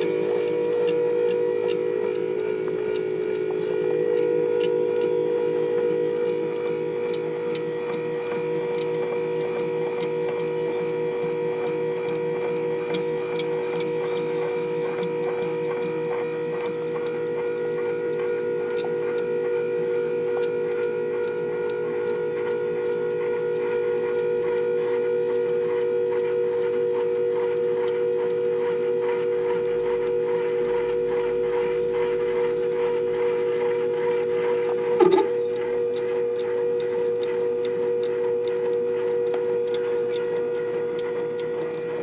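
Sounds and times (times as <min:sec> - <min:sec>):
stepper motor whining: 0:00.0 - 0:24.7, 0:25.3 - 0:42.0
stepper motor ticking: 0:00.0 - 0:42.0.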